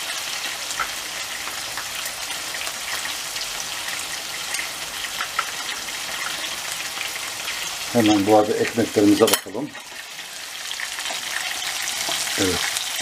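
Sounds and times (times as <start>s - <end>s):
meat patties sizzling in a pan: 0.0s - 13.0s.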